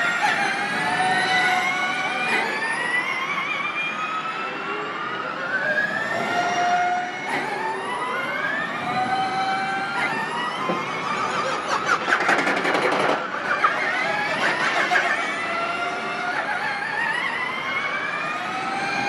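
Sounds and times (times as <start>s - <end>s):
electric racing cars whining: 0.0s - 19.0s.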